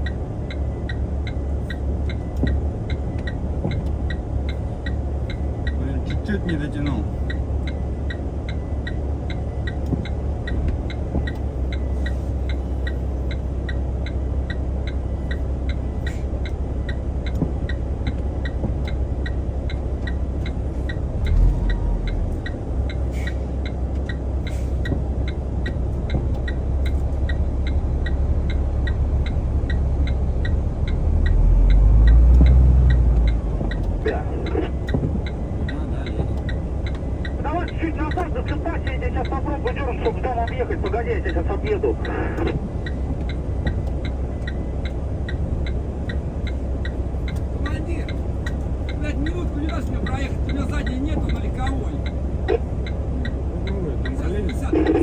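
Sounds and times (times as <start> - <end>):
diesel engine idling: 0.0 - 55.0
faint regular ticking: 0.0 - 55.0.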